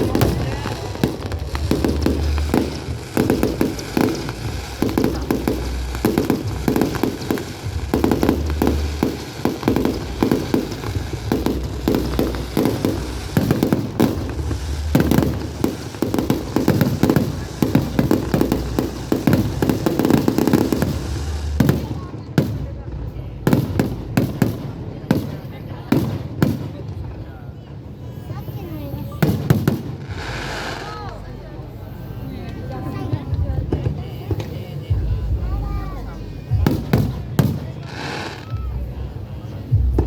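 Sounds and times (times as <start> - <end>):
deep fireworks booms: 0.0 - 40.0
fireworks bangs and crackles: 0.0 - 40.0.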